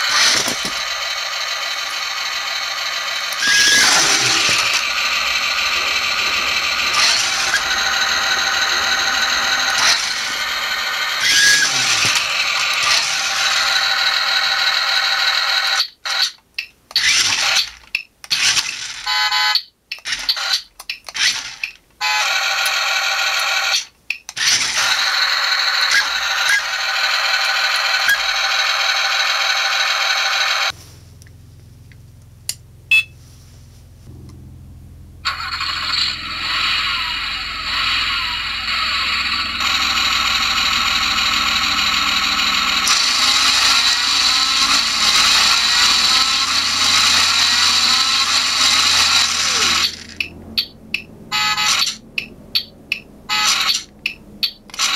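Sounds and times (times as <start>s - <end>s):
toy car motors whining: 0.0s - 30.8s, 35.3s - 52.7s, 53.3s - 54.9s.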